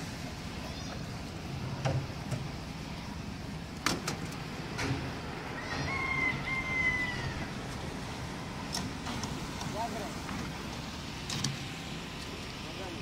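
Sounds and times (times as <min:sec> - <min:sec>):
concrete mixer engine humming: 0:00.0 - 0:13.0.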